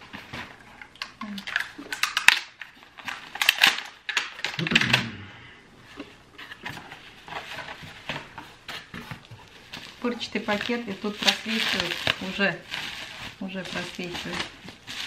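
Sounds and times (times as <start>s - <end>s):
packaging crackling and rustling: 0.0s - 5.0s, 6.4s - 15.0s.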